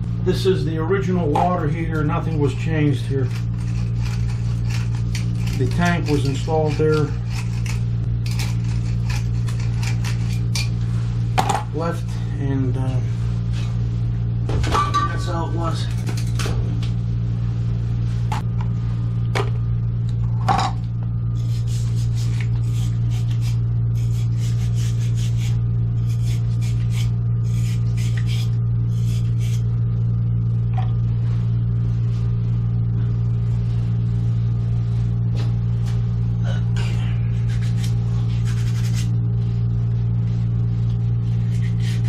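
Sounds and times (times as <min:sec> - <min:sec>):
low mechanical hum: 0:00.0 - 0:42.0.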